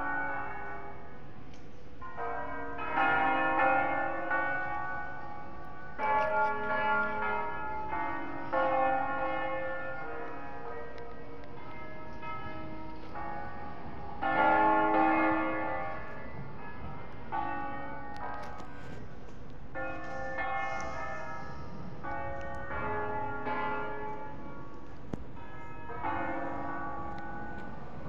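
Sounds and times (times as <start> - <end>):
church bells pealing: 0.0 - 28.0.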